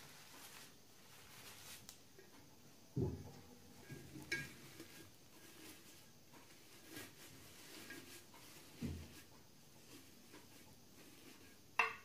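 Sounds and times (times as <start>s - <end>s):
mint sprigs rustling: 0.0s - 2.4s, 3.7s - 11.6s.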